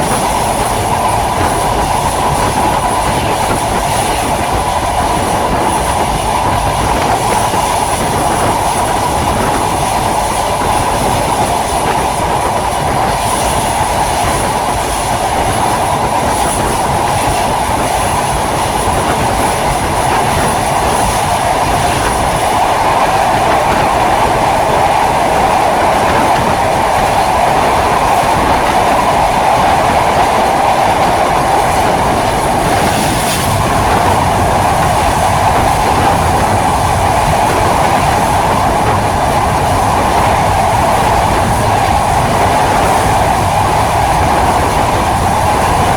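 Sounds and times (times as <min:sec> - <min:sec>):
train wheels rumbling on track: 0:00.0 - 0:45.9.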